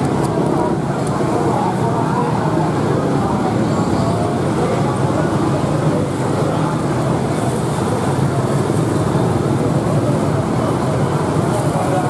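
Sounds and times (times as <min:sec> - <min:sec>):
traffic rumble and hum: 0:00.0 - 0:12.0.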